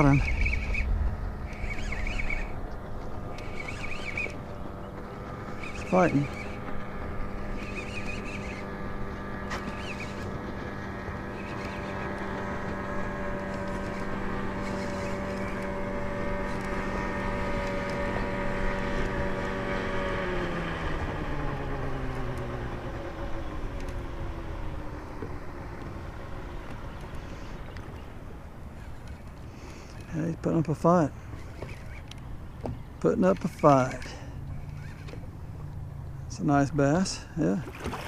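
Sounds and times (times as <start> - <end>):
boat motor humming: 0.0 - 38.0.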